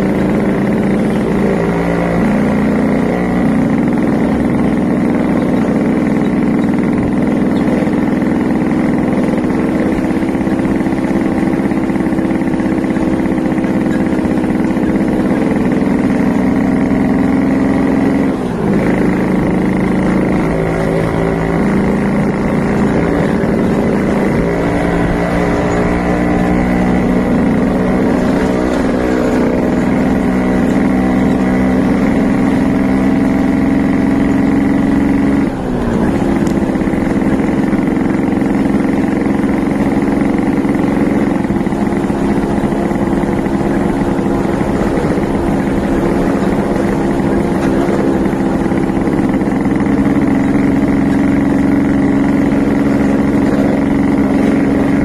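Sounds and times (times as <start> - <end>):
two-stroke motorcycle engine running: 0.0 - 55.0.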